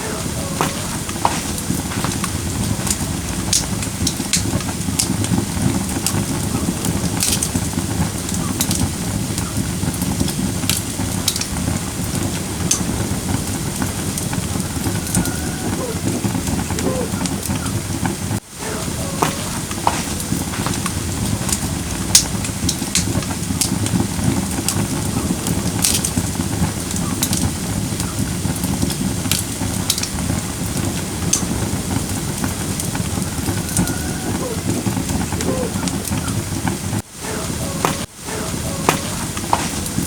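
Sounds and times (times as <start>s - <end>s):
fire burning: 0.0s - 40.0s
firewood crackling and popping: 0.0s - 40.0s.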